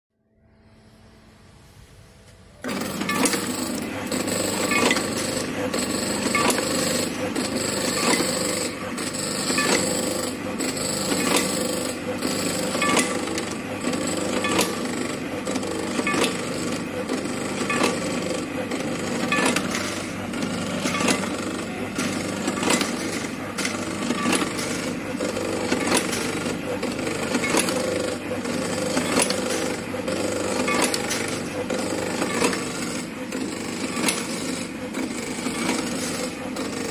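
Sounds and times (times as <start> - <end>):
motor hum: 0.6 - 36.9.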